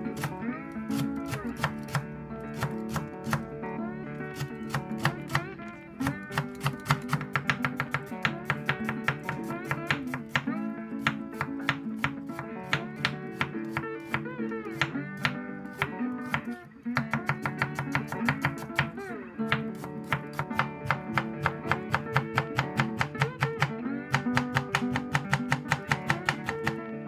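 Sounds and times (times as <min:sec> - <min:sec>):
flamenco acoustic guitar music: 0:00.0 - 0:27.0.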